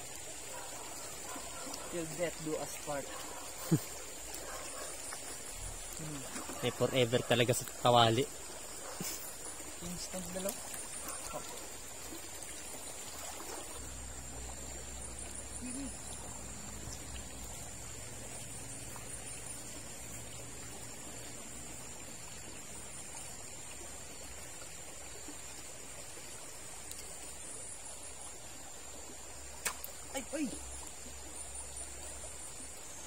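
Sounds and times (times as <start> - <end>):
river water trickling over rocks: 0.0 - 33.0.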